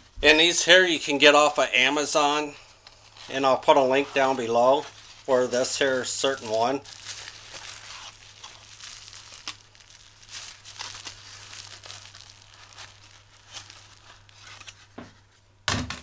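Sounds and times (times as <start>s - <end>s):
bubble wrap crinkling: 0.7s - 15.4s.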